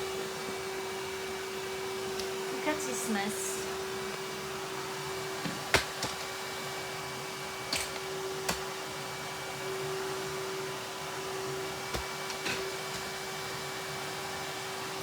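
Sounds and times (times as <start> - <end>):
steady hum with held tone: 0.0 - 15.0.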